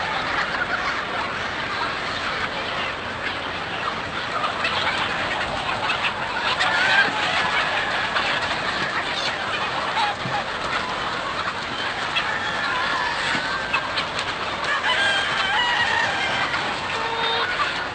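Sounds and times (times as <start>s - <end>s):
drawn-out chicken calls: 0.0s - 17.9s
flock of chickens clucking: 0.0s - 17.9s.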